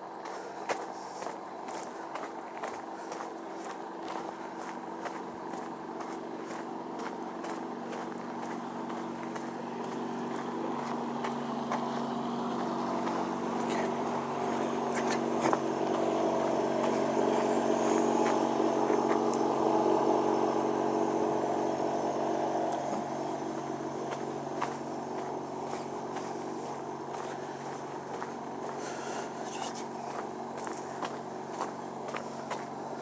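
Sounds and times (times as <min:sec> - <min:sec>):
engine drone: 0:00.0 - 0:33.0
footsteps on gravel: 0:00.0 - 0:33.0.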